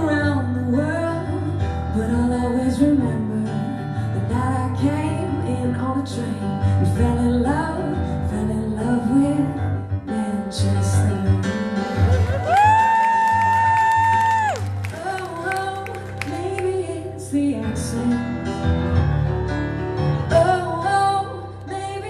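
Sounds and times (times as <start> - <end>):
woman singing a ballad: 0.0 - 18.8, 20.2 - 22.0.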